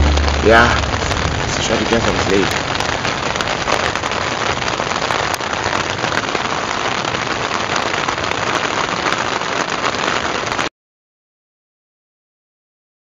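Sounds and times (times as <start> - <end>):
heavy rain on tent fabric: 0.0 - 10.7.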